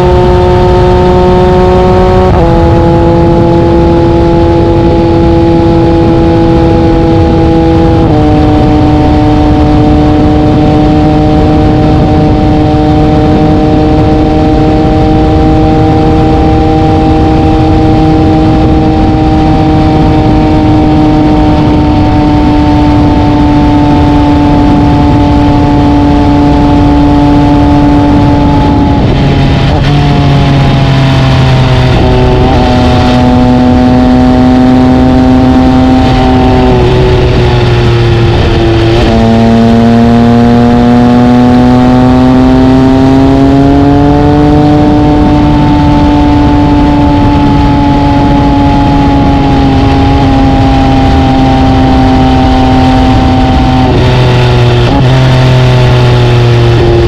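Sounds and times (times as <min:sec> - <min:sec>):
motorcycle engine at speed: 0:00.0 - 0:57.0
wind and road noise: 0:00.0 - 0:57.0.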